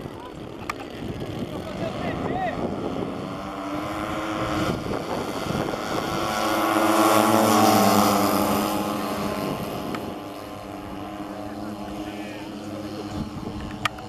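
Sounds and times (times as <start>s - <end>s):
model airplane engines running: 0.0s - 14.0s.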